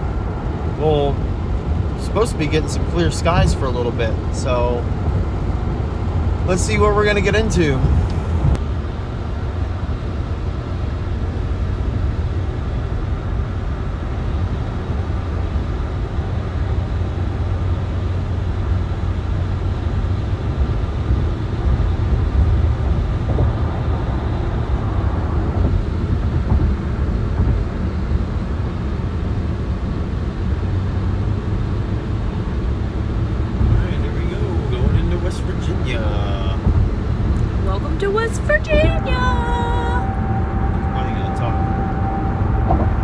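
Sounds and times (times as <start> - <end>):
car road noise: 0.0 - 43.0.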